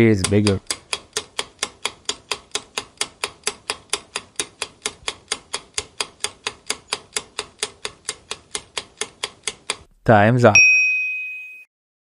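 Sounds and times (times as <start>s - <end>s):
countdown timer ticks: 0.0s - 9.9s.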